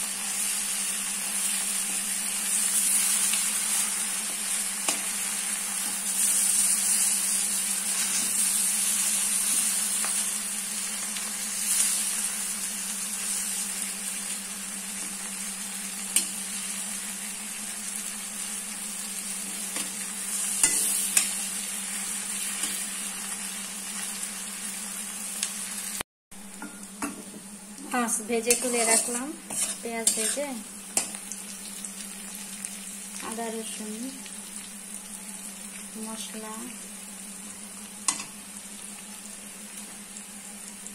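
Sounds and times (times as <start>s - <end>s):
fish sizzling in oil: 0.0s - 40.9s
steady low hum: 0.0s - 40.9s.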